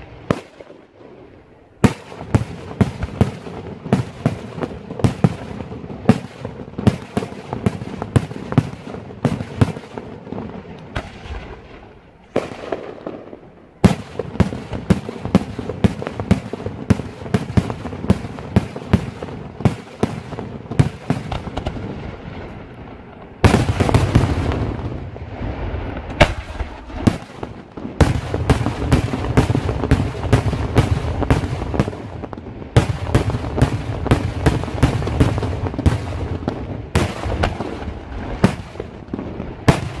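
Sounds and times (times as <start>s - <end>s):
fireworks bursting with sharp bangs: 0.0s - 40.0s.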